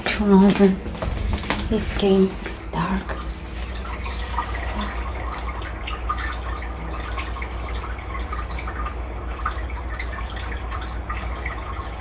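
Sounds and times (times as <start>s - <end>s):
steady low hum: 0.0s - 12.0s
water dripping and trickling: 0.0s - 12.0s.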